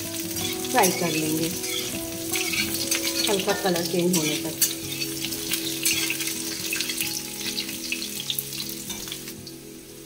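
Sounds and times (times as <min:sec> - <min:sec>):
potatoes sizzling in oil: 0:00.0 - 0:10.0
metal spatula scraping pan: 0:00.2 - 0:09.2.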